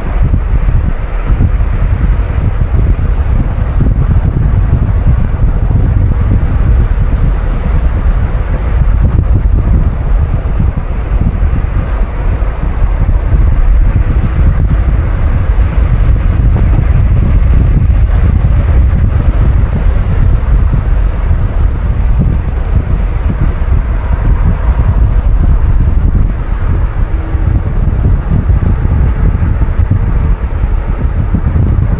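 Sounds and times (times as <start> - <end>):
car road noise: 0.0 - 31.9
wind rumble on microphone: 0.0 - 31.9.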